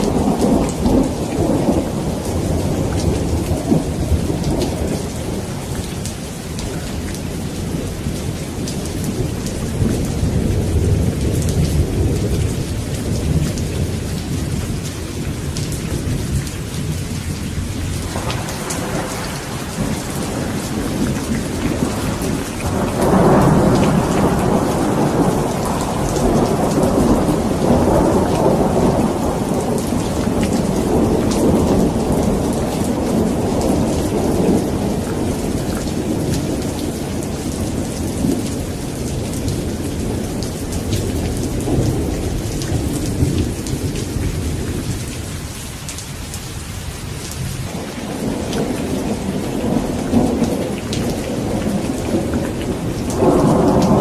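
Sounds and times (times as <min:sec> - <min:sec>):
rolling thunder: 0:00.0 - 0:45.4, 0:47.4 - 0:54.0
steady rain falling: 0:00.0 - 0:54.0.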